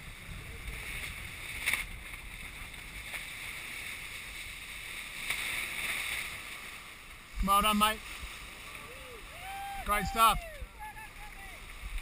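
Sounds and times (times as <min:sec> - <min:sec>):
water rushing around yacht: 0:00.0 - 0:12.0.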